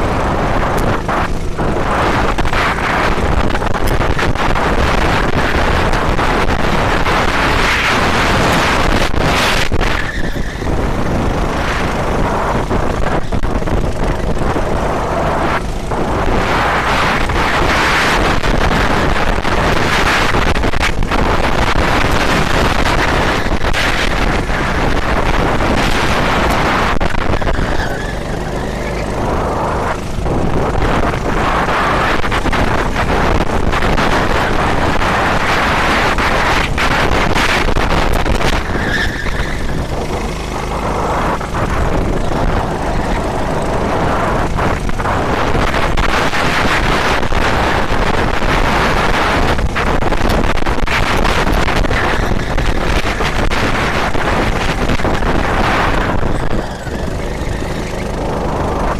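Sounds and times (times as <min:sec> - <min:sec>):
racing car engine: 0:00.0 - 0:58.9
rushing wind: 0:00.0 - 0:58.9.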